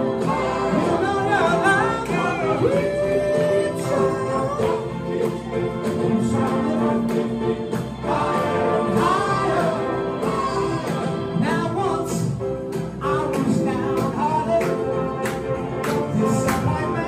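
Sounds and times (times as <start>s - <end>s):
backing vocal harmonies: 0.0s - 17.0s
lead voice singing: 0.0s - 17.0s.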